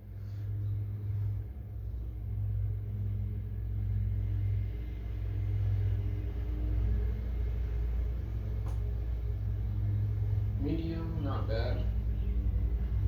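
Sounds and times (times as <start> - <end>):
ceiling fan turning: 0.0 - 13.0.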